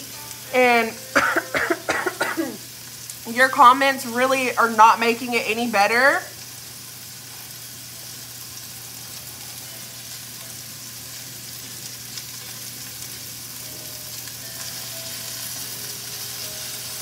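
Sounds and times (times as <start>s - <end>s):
potatoes sizzling in a pan: 0.0s - 17.0s.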